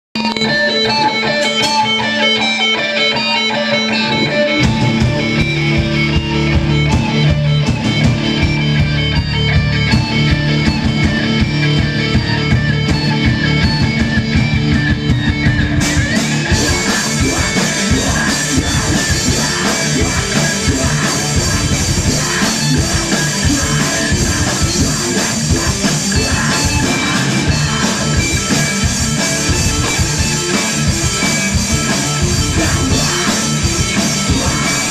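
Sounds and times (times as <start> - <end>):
bass guitar: 0.2 - 34.9
electric guitar: 0.2 - 34.9
drum kit with cymbals: 4.2 - 34.9.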